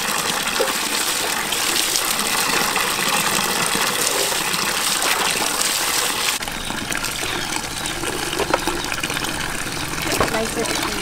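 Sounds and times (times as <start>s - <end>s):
tap water pouring into basin: 0.0s - 11.0s.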